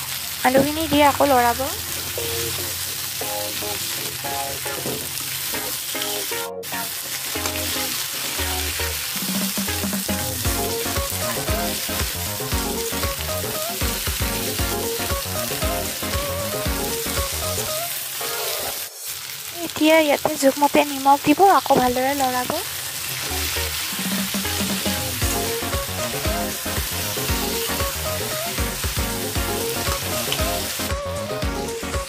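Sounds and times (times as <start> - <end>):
potato wedges sizzling in oil: 0.0 - 32.0
light background music: 0.5 - 18.9, 23.3 - 32.0.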